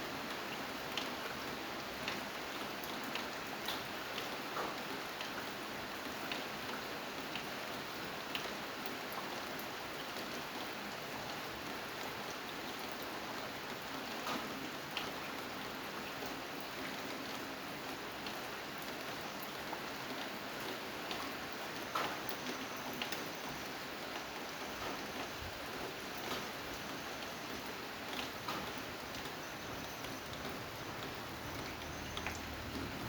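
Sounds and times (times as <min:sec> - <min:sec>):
steady rain hiss: 0:00.0 - 0:33.0.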